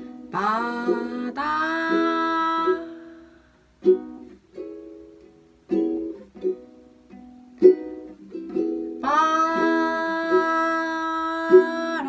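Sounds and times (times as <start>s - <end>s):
ukulele strumming: 0.0s - 12.0s.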